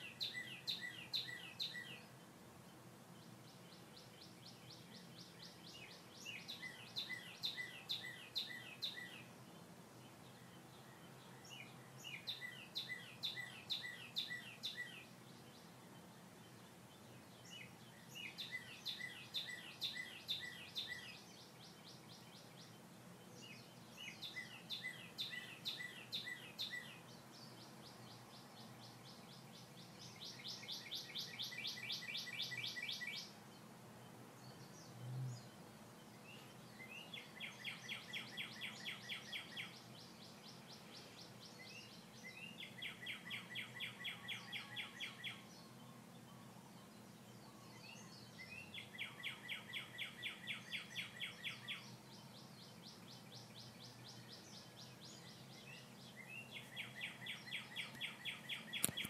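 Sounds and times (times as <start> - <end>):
faint background noise: 0.0 - 59.0
songbird singing: 0.0 - 59.0.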